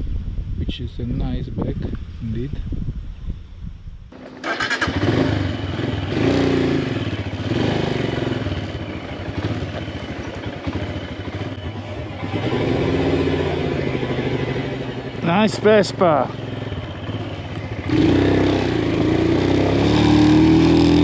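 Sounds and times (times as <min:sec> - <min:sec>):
motorcycle engine running: 0:04.1 - 0:21.0.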